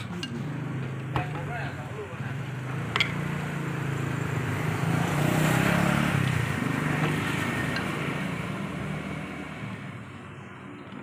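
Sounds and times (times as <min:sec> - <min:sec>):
vehicle engine passing by: 0:00.0 - 0:10.2.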